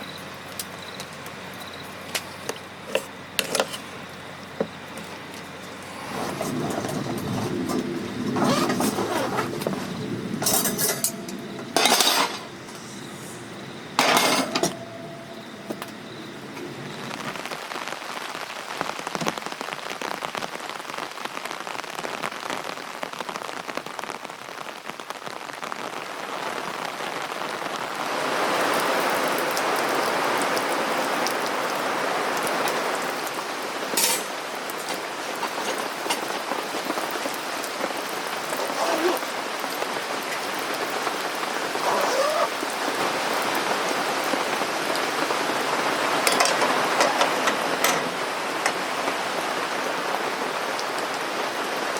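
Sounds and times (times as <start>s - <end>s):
rain pattering on a tent: 0.0s - 51.9s.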